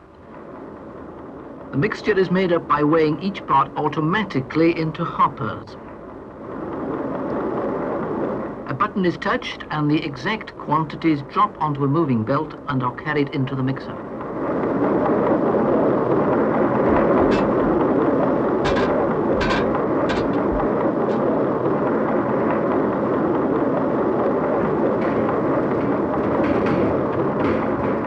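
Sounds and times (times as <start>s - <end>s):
machinery rumbling churn: 1.5s - 28.0s.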